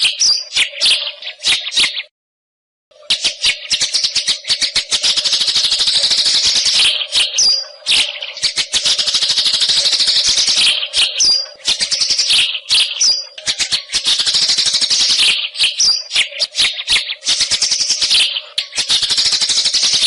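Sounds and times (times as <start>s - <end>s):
bird singing rattling chatter: 0.0s - 2.1s, 3.0s - 20.0s
high bird whistles: 0.0s - 2.1s, 3.1s - 20.0s.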